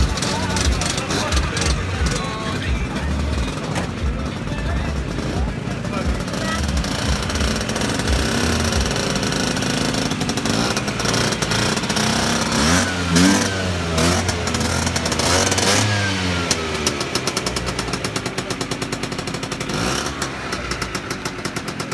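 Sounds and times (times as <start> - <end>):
small engine revving and idling: 0.0 - 21.9.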